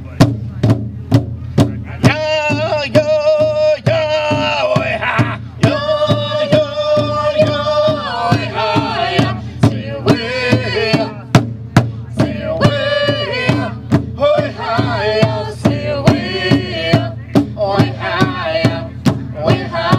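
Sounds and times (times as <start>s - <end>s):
drum beating steadily: 0.0s - 19.9s
group singing: 2.1s - 11.4s, 12.1s - 19.9s.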